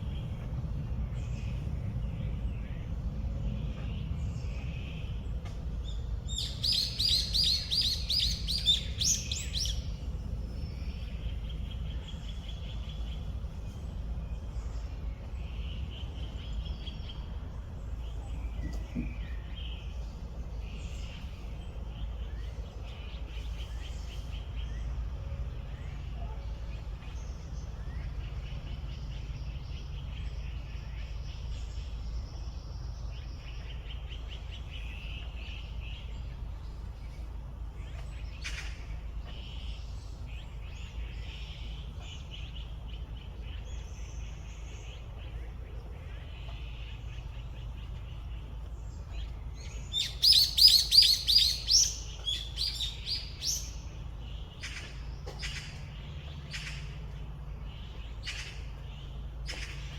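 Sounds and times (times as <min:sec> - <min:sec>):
low background rumble: 0:00.0 - 0:59.9
wild birds singing: 0:00.0 - 0:59.9.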